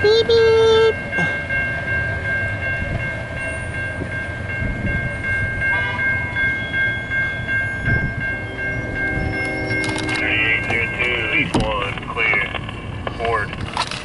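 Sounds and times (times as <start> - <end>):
crossing warning bell ringing: 0.0 - 14.0
freight train rumbling: 0.0 - 14.0.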